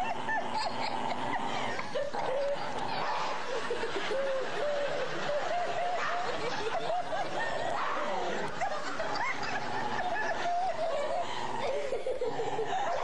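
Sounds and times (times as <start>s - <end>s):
people laughing and giggling: 0.0s - 13.0s.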